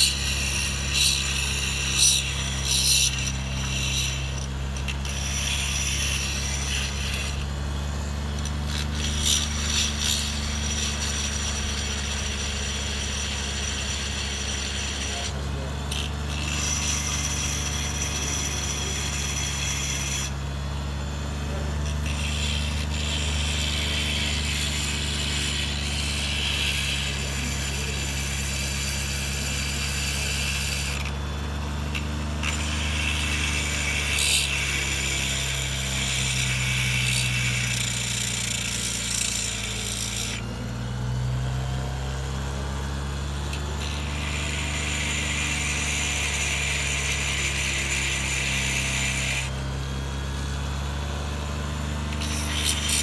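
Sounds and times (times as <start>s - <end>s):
high hissing grinding noise: 0.0s - 53.0s
power tool motor running: 0.0s - 53.0s.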